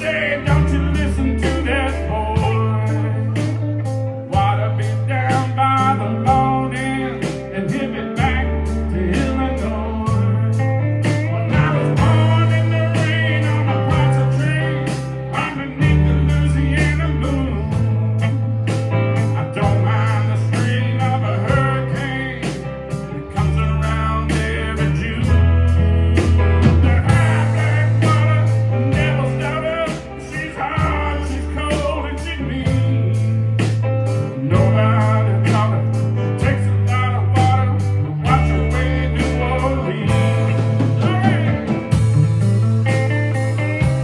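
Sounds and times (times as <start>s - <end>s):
bass line: 0.0s - 44.0s
lead guitar bending notes: 0.0s - 44.0s
steady drum beat: 0.0s - 44.0s.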